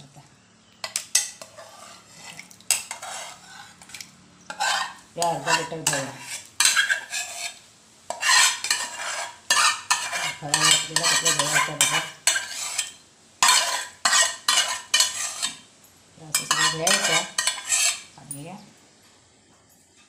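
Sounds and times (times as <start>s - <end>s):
spoon scraping metal bowl: 0.8s - 15.7s, 16.3s - 18.2s.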